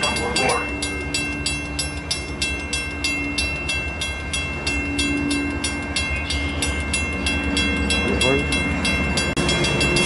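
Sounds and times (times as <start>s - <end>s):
fast bell ringing: 0.0s - 10.0s
train rumble: 0.0s - 10.0s.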